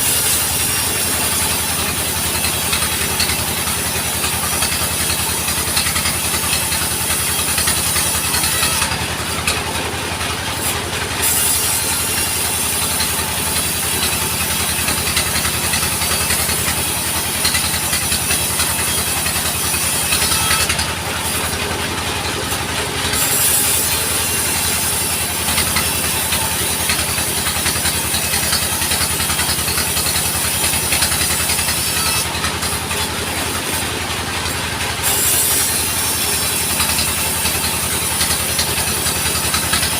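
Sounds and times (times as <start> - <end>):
saw cutting wood: 0.0 - 39.9
sawmill engine humming: 0.0 - 39.9.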